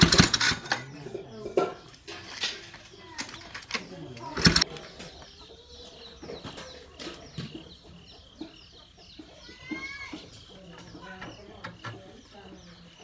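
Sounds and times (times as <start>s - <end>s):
drawn-out bird call: 0.0s - 1.2s, 2.4s - 13.0s
birds chirping: 0.0s - 13.0s.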